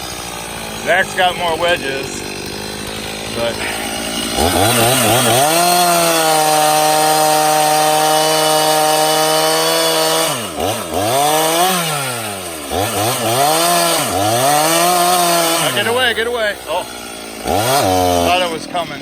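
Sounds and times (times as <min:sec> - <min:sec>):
chainsaw cutting at high revs: 0:00.0 - 0:19.0.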